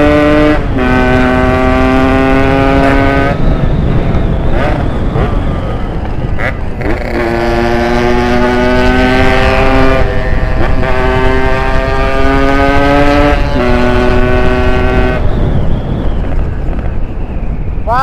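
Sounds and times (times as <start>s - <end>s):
two-stroke motorcycle revving: 0.0s - 17.0s
low wind rumble: 0.0s - 18.0s.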